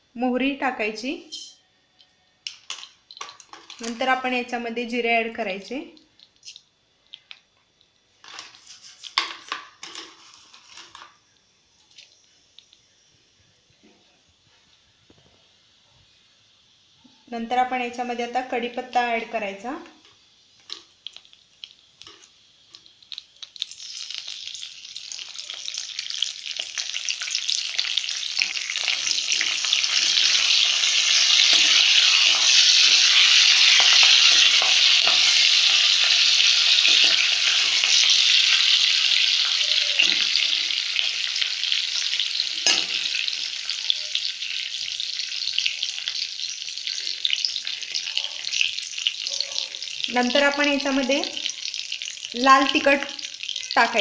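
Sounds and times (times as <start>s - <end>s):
leaves sizzling in hot oil: 2.4s - 13.1s, 15.3s - 54.0s.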